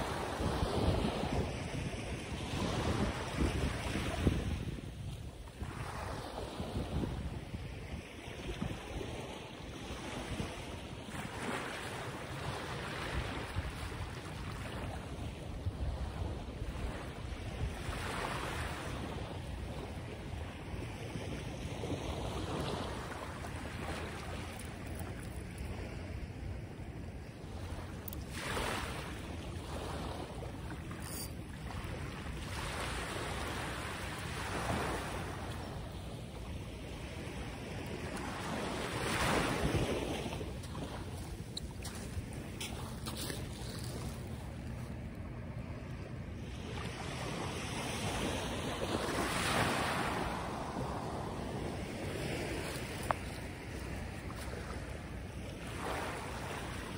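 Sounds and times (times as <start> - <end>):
wind buffeting microphone: 0.0 - 45.8.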